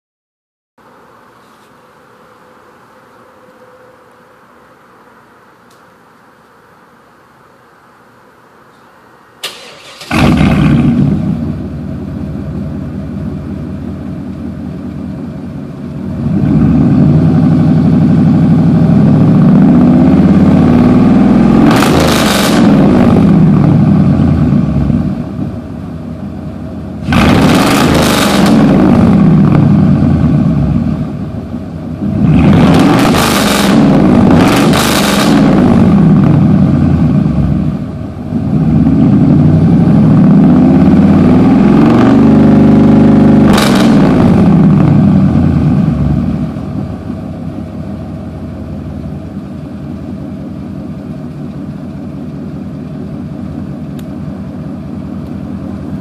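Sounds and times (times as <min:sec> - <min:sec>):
truck engine starting and revving: 0:09.4 - 0:56.0.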